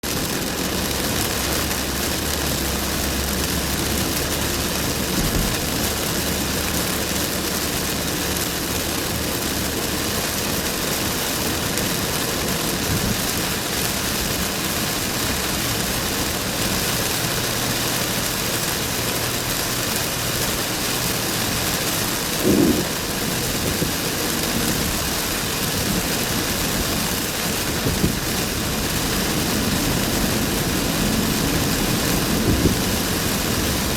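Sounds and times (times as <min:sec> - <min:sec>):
heavy rain and tyre spray: 0:00.0 - 0:33.9
low engine hum: 0:00.1 - 0:33.9.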